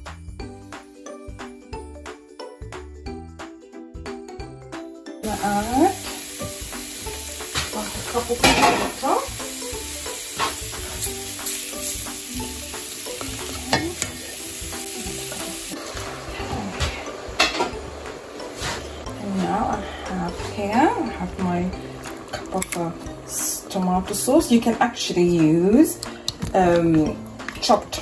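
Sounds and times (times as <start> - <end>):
chicken sizzling in a pot: 5.2 - 28.0.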